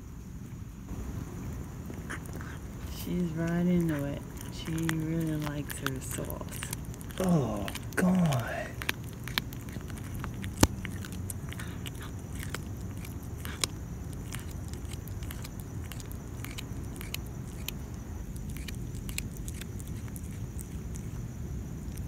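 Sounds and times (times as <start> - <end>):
cat crunching bone: 0.9 - 22.0.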